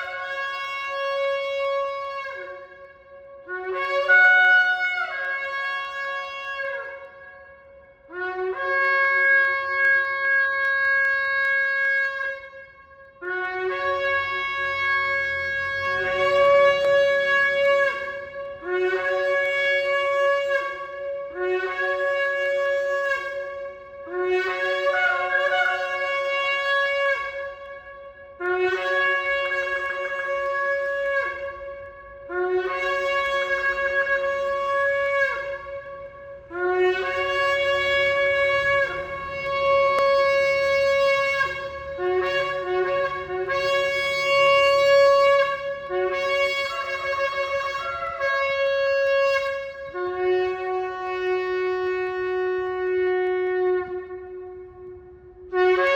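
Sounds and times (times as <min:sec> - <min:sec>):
shofar blasts: 0:00.0 - 0:55.9.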